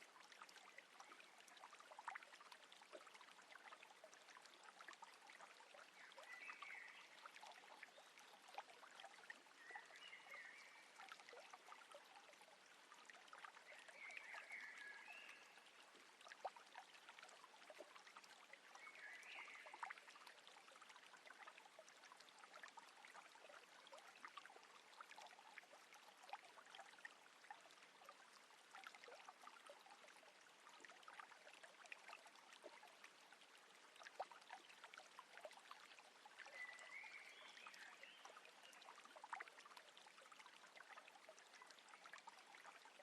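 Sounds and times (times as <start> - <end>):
water trickling and lapping: 0.0 - 43.0.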